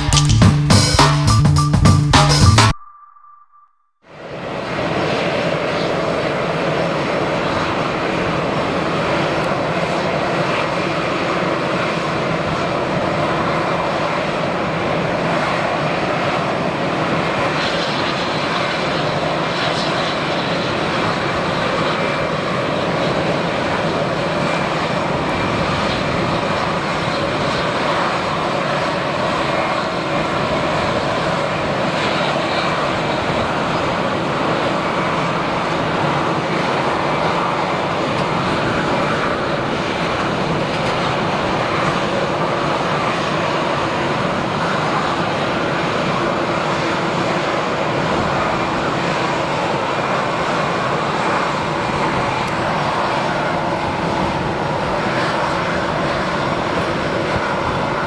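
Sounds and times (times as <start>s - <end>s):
jet engines roaring: 4.1s - 58.0s.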